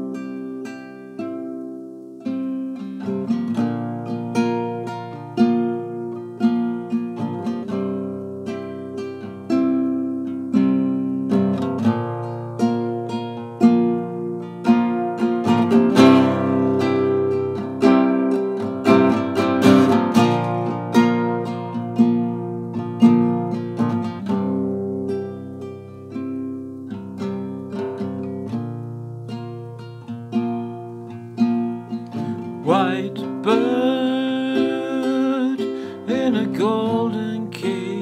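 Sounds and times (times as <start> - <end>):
classical guitar strumming chords: 0.0 - 38.0.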